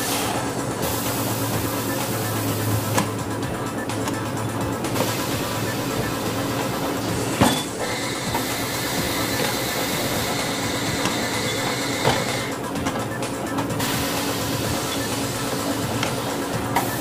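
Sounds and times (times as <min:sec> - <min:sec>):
compressed air hissing: 0:00.0 - 0:03.3, 0:04.8 - 0:12.7, 0:13.8 - 0:17.0.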